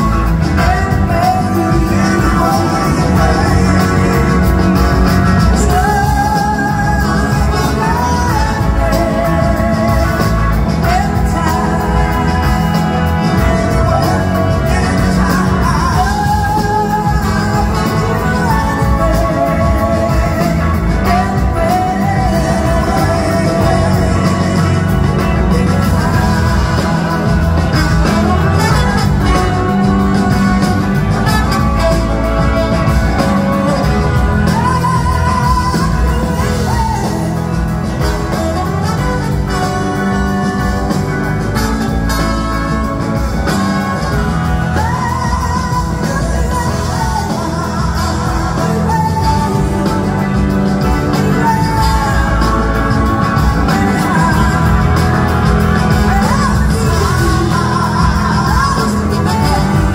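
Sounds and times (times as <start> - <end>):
drums: 0.0 - 59.9
electric guitar: 0.0 - 59.9
live blues-rock band: 0.0 - 59.9
woman singing lead: 0.0 - 59.9.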